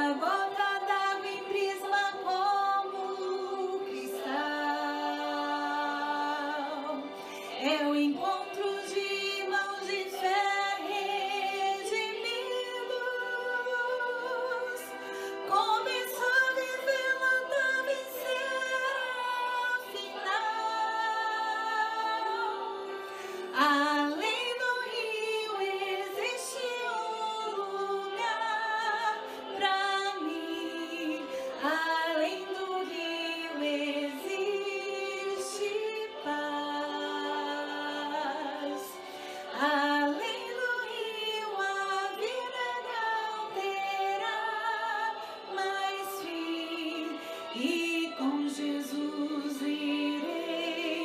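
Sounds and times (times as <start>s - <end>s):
woman singing gospel song: 0.0s - 51.0s.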